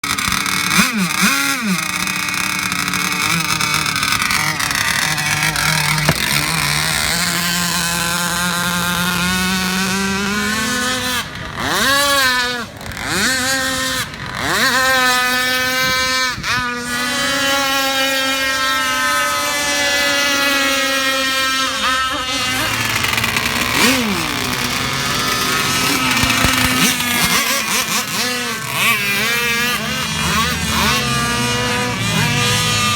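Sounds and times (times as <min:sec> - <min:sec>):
model boat motor revving high: 0:00.0 - 0:32.9.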